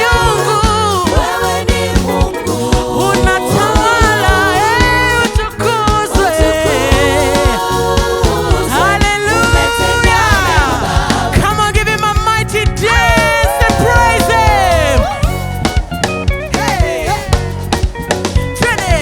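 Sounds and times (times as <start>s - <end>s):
singers holding long notes: 0.0s - 15.6s
band with steady beat: 0.0s - 19.0s.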